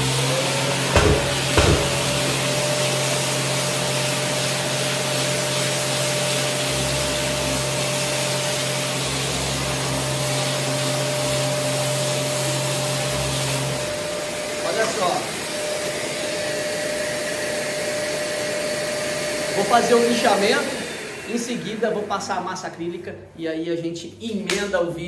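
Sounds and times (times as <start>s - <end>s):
electric sander grinding wall: 0.0s - 23.2s.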